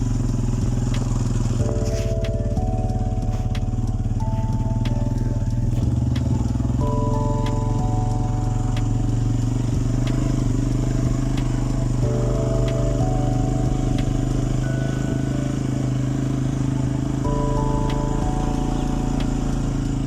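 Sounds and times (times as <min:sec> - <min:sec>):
faint higher tones: 0:00.0 - 0:20.0
motorcycle engine running: 0:00.0 - 0:20.0.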